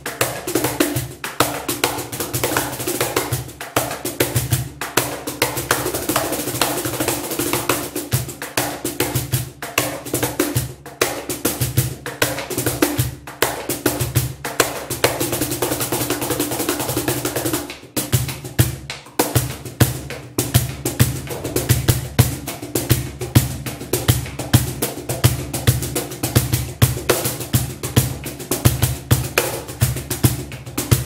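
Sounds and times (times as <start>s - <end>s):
cajon hand drumming: 0.0s - 31.0s.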